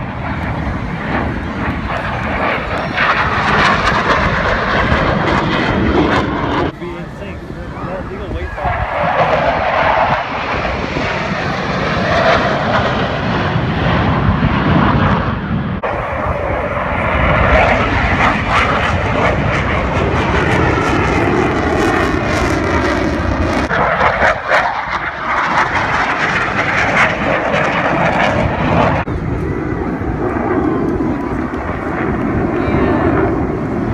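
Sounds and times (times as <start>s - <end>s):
jets flying past: 0.0s - 33.9s.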